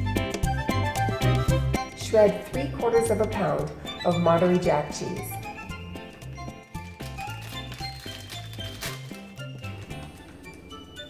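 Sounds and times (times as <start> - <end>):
background music with bass line: 0.0 - 10.2.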